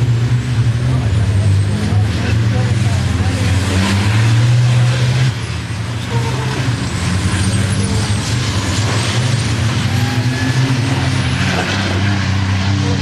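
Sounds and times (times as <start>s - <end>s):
truck diesel engines droning: 0.0s - 13.0s.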